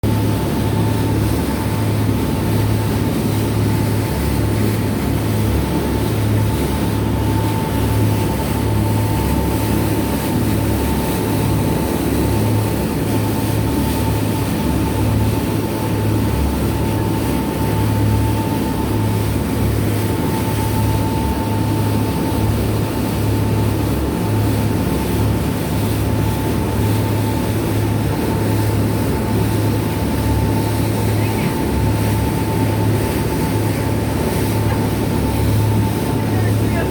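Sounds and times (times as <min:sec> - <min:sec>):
boat engines droning: 0:00.0 - 0:36.9.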